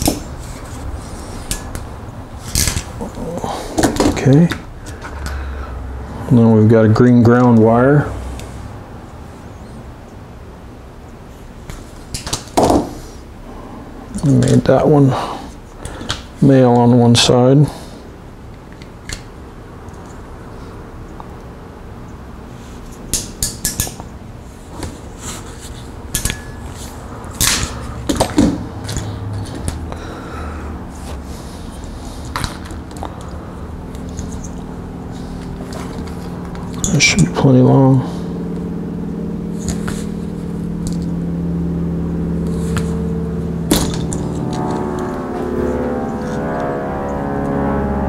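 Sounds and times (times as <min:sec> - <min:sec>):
steady machine hum: 0:00.0 - 0:48.0.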